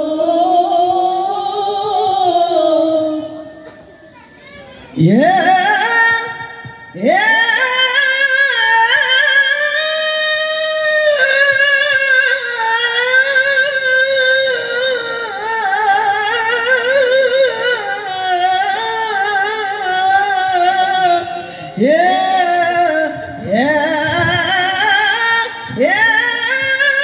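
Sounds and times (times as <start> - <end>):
woman singing into microphone: 0.0 - 3.8, 5.0 - 27.0.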